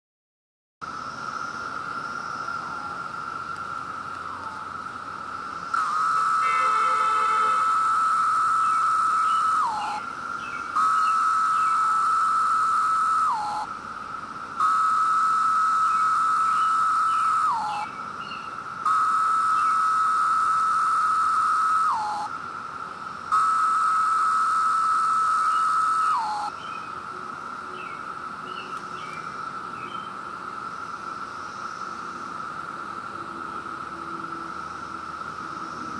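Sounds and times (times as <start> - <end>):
cicada buzzing call: 0.8 - 35.9
faint cicada drone: 0.8 - 35.9.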